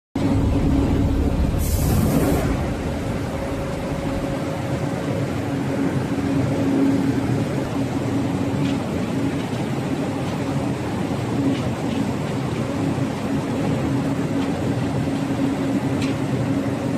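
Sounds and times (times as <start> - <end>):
industrial drone with low hum: 0.2 - 16.9.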